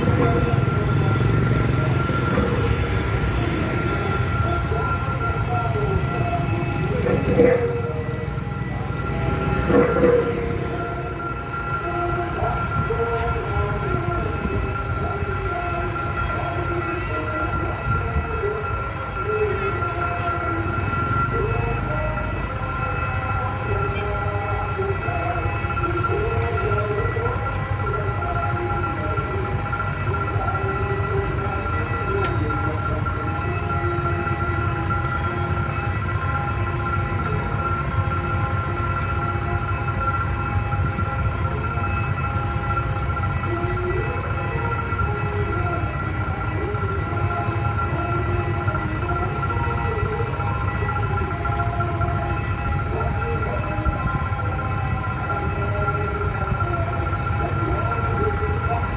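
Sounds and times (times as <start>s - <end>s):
machine running with whining tones: 0.0s - 58.9s.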